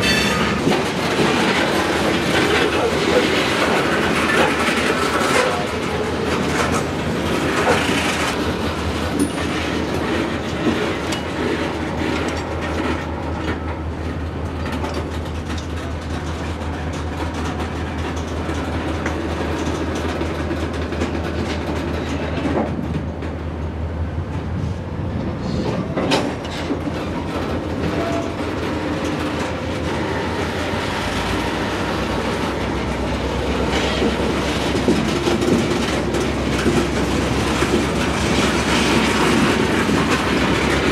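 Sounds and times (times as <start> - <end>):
diesel locomotive engine hum: 0.0 - 40.9
train wheels clicking over rail joints: 0.0 - 40.9.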